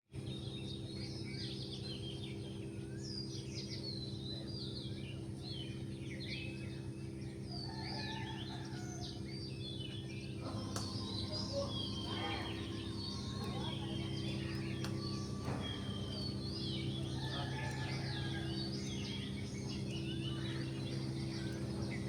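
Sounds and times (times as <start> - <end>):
small birds chirping: 0.2 - 22.0
steady low hum: 0.2 - 22.0.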